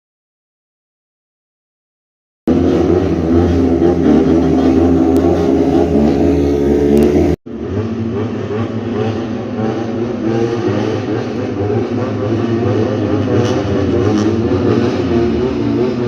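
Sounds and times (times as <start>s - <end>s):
loud motorcycle engine: 2.5s - 16.0s.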